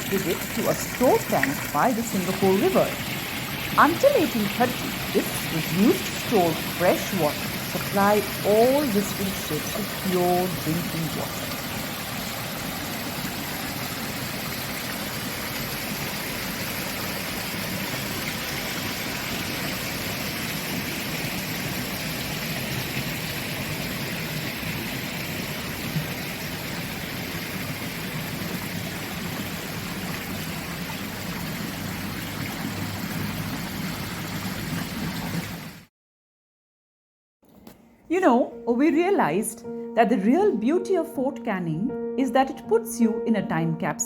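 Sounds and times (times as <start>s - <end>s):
water rushing: 0.0s - 35.9s.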